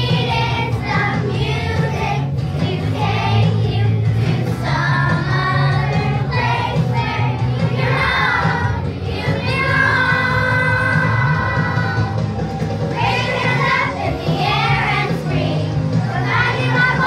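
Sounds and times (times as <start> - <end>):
backing music with low bass: 0.0 - 17.0
children's choir singing: 0.0 - 17.0.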